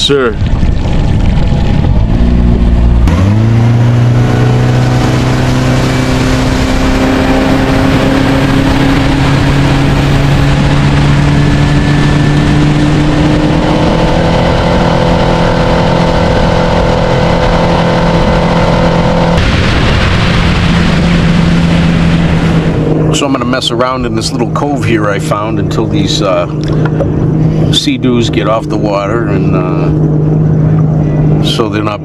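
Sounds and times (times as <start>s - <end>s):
rush of wind and water: 0.0s - 32.0s
outboard motor throttling up: 0.4s - 32.0s.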